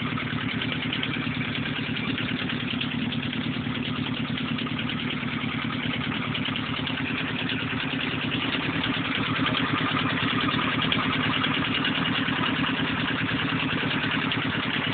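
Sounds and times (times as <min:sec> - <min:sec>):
car engine running: 0:00.0 - 0:14.9.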